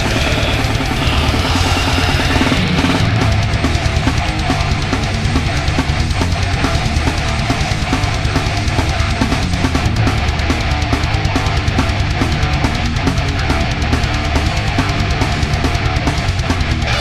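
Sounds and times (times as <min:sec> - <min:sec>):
bass guitar: 0:00.0 - 0:17.0
drum kit: 0:00.0 - 0:17.0
heavy guitars: 0:00.0 - 0:17.0.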